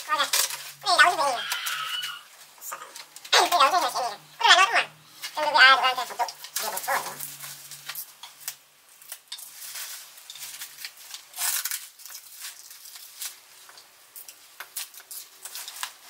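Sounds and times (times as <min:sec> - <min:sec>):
bubble wrap rustling: 0:00.0 - 0:16.0.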